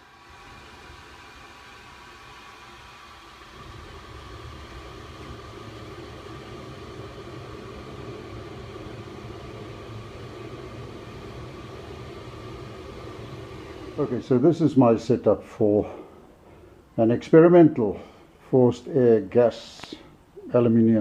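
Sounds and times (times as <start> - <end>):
gas burner flame roaring: 0.0 - 21.0.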